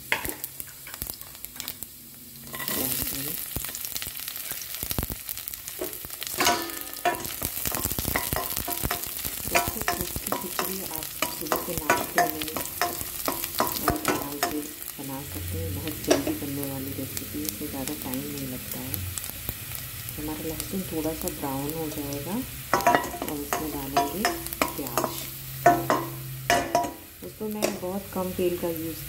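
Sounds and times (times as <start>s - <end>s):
garlic sizzling in hot oil: 0.0s - 29.0s.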